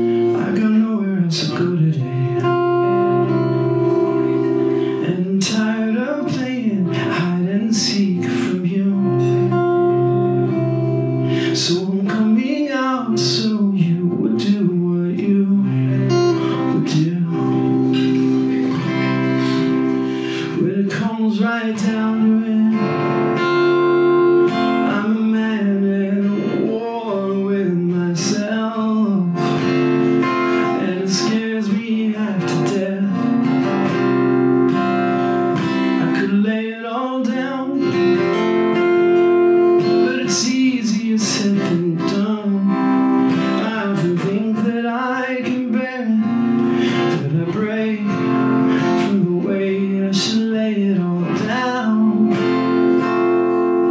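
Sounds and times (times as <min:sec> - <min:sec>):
acoustic guitar strumming: 0:00.0 - 0:53.9
man singing: 0:00.0 - 0:53.9.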